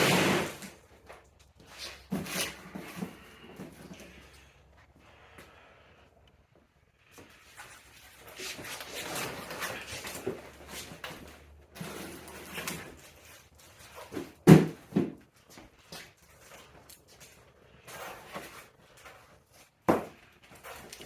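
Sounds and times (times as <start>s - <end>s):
rustling and scraping: 0.0s - 21.0s.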